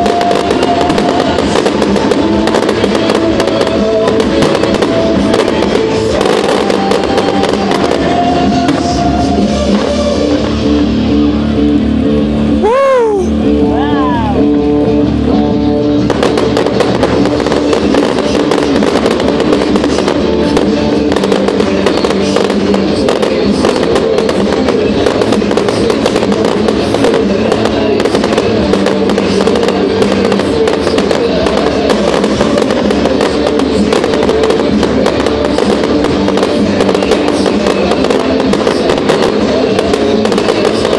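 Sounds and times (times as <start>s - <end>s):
fireworks crackling: 0.0s - 40.9s
loud music: 0.0s - 40.9s.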